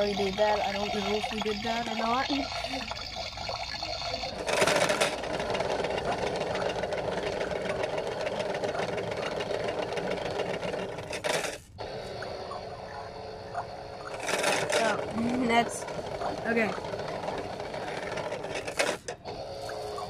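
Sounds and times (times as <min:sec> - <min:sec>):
small motor whirring: 0:00.0 - 0:20.0.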